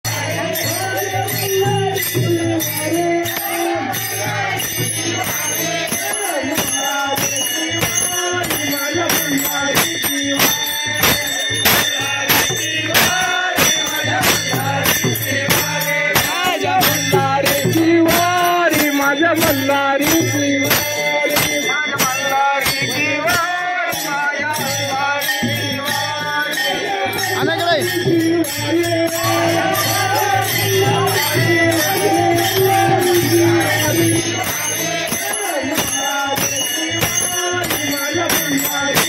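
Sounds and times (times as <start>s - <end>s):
jingling percussion: 0.0s - 39.0s
devotional group singing: 0.1s - 39.0s.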